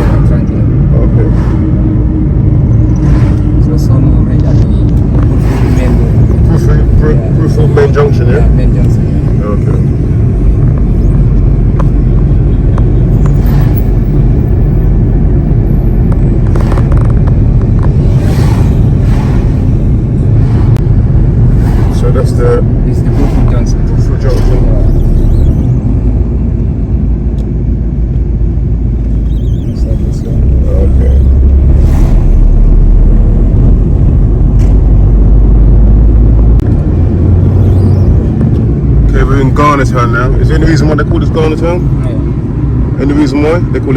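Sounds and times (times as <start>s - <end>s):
rushing noise: 0.0s - 27.2s, 29.0s - 43.0s
car engine and tyre rumble: 0.0s - 43.9s.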